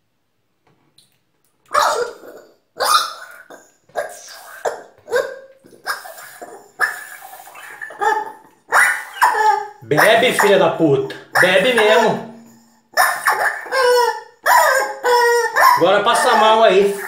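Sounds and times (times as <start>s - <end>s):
rubber chicken toy squawking: 1.7s - 10.7s, 11.3s - 17.0s.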